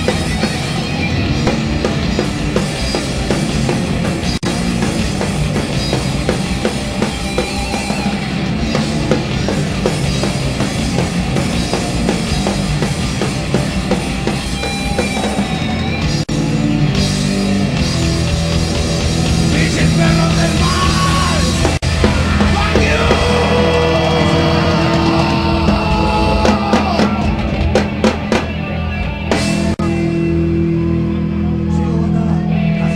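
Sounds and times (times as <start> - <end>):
pounding drum kit: 0.0 - 30.3
loud fast rock band: 0.0 - 32.9.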